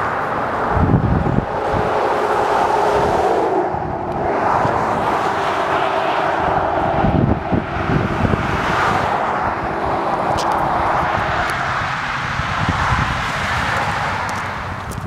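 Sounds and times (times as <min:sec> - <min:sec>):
low rumble: 0:00.0 - 0:12.9
cars passing on highway: 0:00.0 - 0:15.0.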